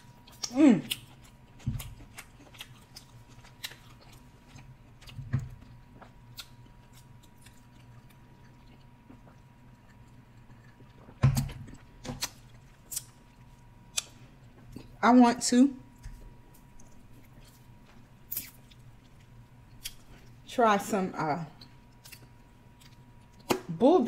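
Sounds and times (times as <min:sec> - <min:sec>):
chewing with wet mouth clicks: 0:00.0 - 0:15.0, 0:16.0 - 0:20.4, 0:21.5 - 0:23.6.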